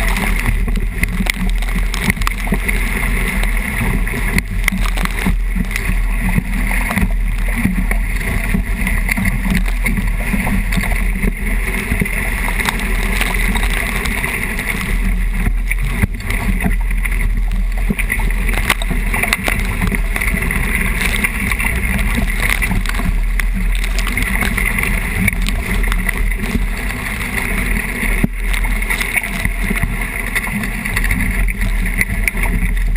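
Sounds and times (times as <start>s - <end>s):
water rushing past hull: 0.0s - 32.9s.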